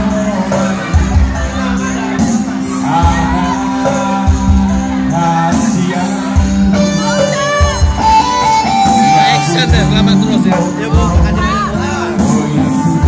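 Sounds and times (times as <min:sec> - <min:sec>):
low beat: 0:00.0 - 0:13.0
music with singing voice: 0:00.0 - 0:13.0.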